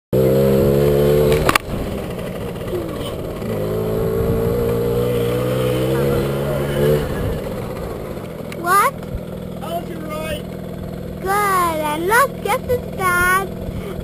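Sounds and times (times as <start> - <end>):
dirt bike engine running: 0.1 - 14.0.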